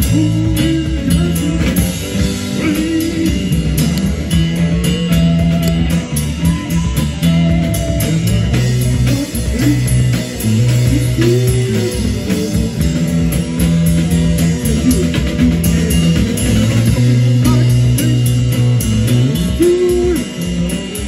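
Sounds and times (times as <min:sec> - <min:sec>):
bass guitar notes: 0:00.0 - 0:21.0
drum kit playing: 0:00.0 - 0:21.0
electric guitars playing: 0:00.0 - 0:21.0.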